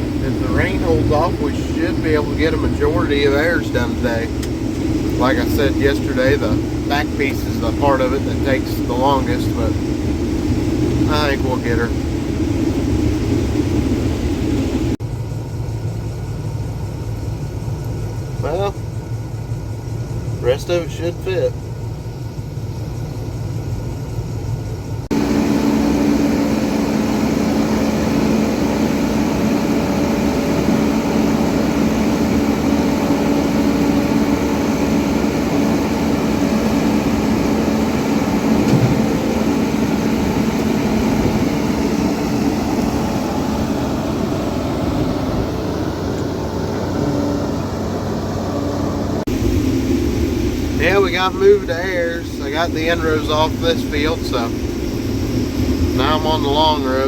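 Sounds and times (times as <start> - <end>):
combine harvester droning: 0.0 - 57.0.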